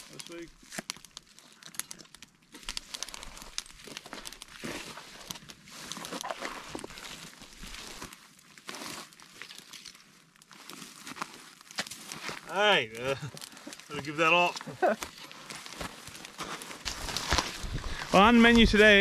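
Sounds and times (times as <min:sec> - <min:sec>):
dry twigs crackling and snapping: 0:00.0 - 0:19.0.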